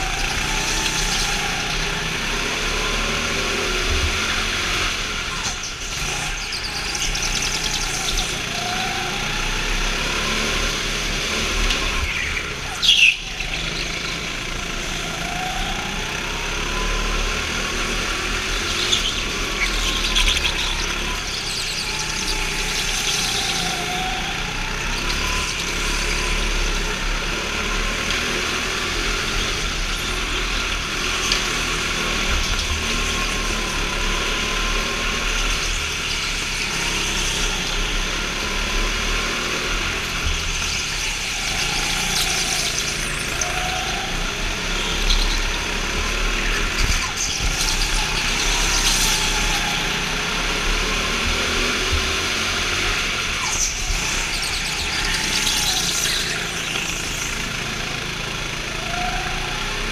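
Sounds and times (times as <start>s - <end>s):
go-kart engine running: 0.0s - 59.9s
other karts passing: 0.0s - 59.9s.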